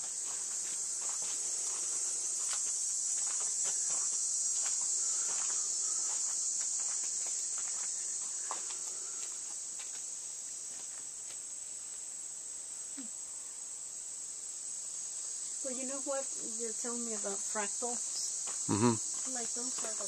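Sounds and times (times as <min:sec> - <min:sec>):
crickets and insects chirping: 0:00.0 - 0:20.0.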